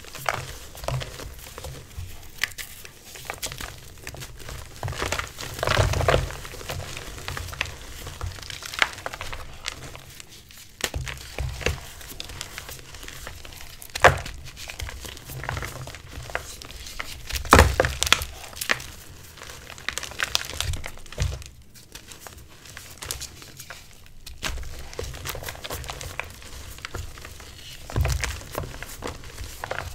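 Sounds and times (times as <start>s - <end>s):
hands crushing chalk lumps: 0.0s - 29.9s.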